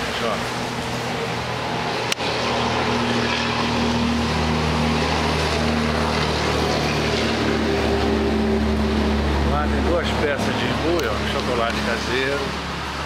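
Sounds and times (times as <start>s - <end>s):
truck engine drone and road noise: 0.0s - 13.0s.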